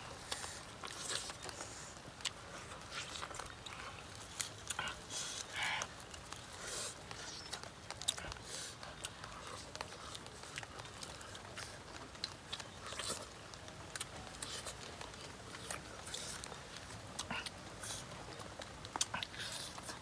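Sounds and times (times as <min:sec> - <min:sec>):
people chewing and lip smacking: 0:00.0 - 0:20.0.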